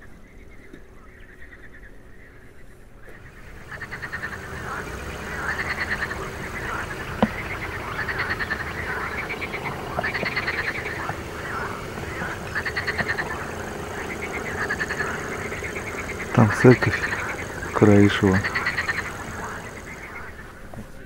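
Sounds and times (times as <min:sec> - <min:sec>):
frogs croaking: 0:00.0 - 0:21.0.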